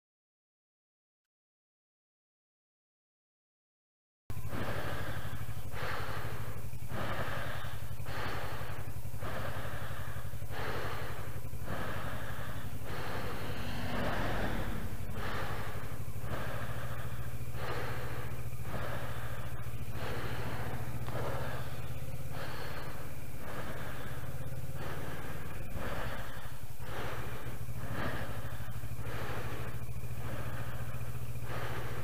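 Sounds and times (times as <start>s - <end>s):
motorcycle engine humming: 4.3s - 32.0s
rider breathing loudly: 4.3s - 32.0s.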